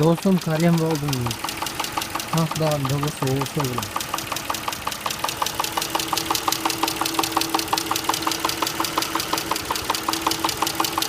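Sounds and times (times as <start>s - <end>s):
car engine idling with knock: 0.0s - 11.0s.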